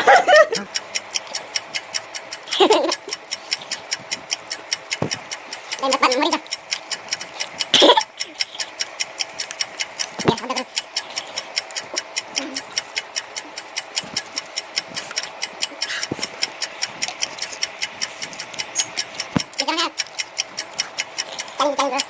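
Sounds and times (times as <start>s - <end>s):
rapid clock ticking: 0.0s - 22.0s.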